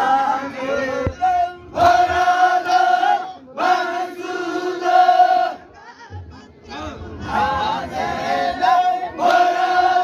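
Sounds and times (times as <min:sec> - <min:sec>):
men singing a chant: 0:00.0 - 0:05.6, 0:06.7 - 0:10.0.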